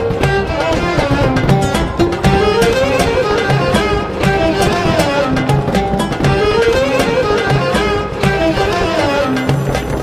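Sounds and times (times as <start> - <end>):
music with percussive hits: 0.0 - 10.0.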